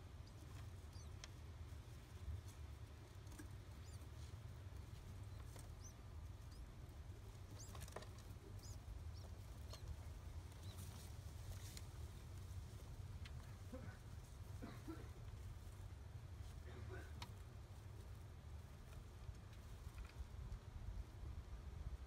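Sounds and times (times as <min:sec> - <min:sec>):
pigeon chick peeping: 0:00.0 - 0:21.0.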